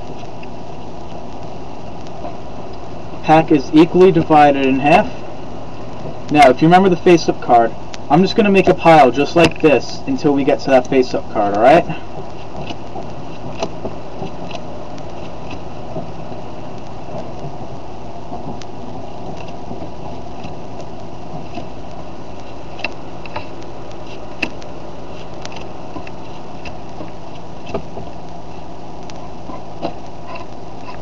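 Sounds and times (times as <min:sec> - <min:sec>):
background hiss: 0:00.0 - 0:31.0
low hum: 0:00.0 - 0:31.0.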